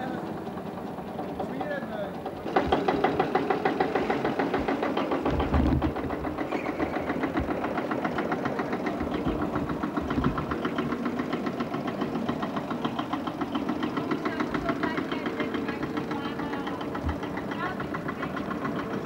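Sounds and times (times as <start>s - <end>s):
engine idling with knocking: 0.0s - 19.0s.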